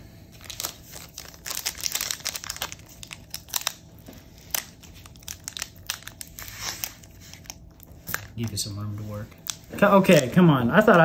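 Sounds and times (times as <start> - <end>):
foil wrapper crinkling and tearing: 0.3 - 10.5.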